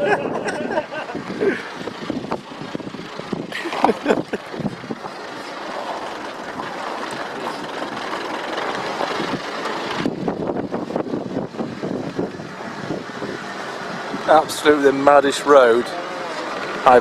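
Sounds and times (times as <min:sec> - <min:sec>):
van engine and tyre noise: 0:00.0 - 0:17.0.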